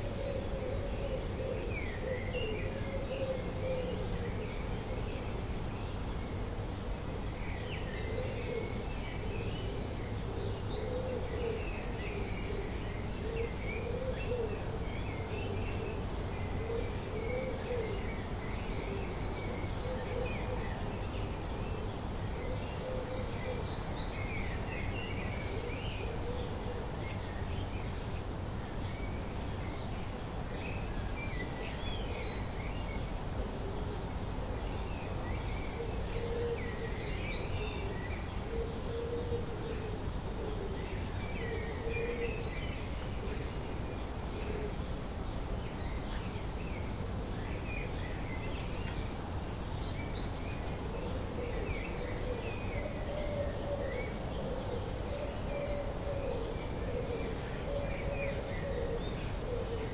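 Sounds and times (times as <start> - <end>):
birds twittering and trilling: 0.0 - 59.9.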